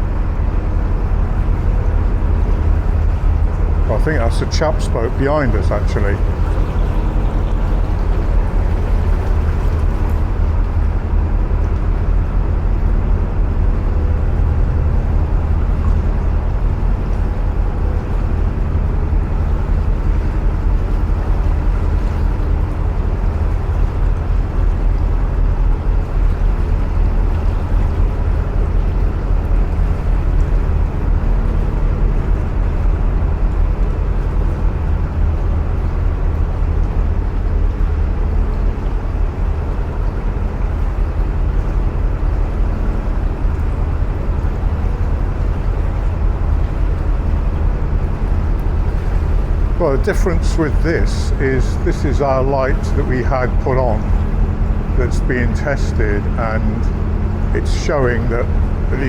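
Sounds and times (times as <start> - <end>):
boat engine rumbling: 0.0 - 59.0
faint steady hum: 0.0 - 59.0.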